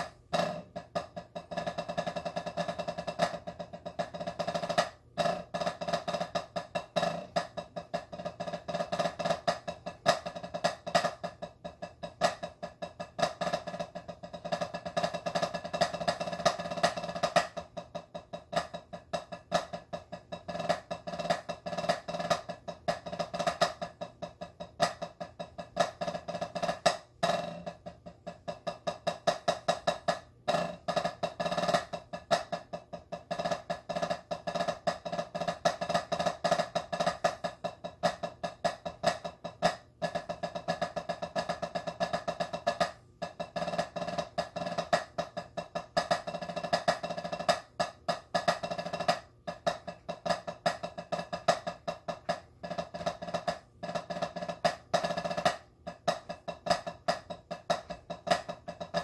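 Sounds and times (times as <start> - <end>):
drumsticks on practice pad: 0.0 - 59.0.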